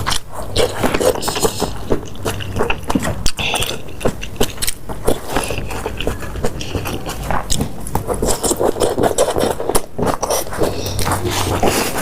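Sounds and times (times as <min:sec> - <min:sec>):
chewing with clicks: 0:00.0 - 0:12.0.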